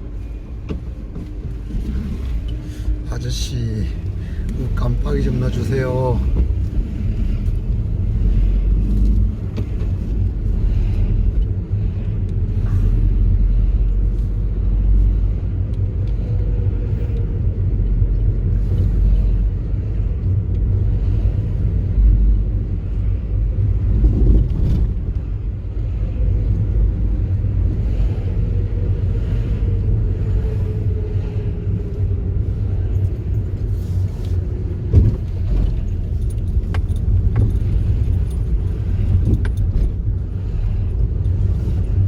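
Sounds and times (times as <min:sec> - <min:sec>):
car engine and road rumble: 0:00.0 - 0:42.0.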